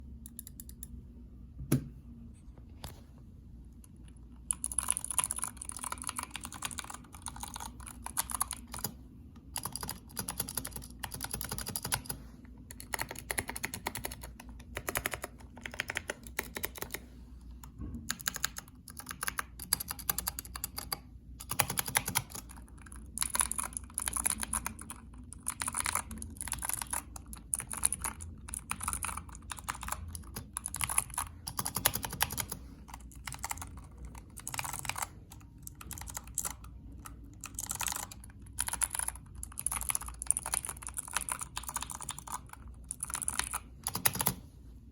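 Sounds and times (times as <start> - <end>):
mechanical keyboard typing: 0.2 - 1.0, 4.4 - 17.0, 18.0 - 44.4.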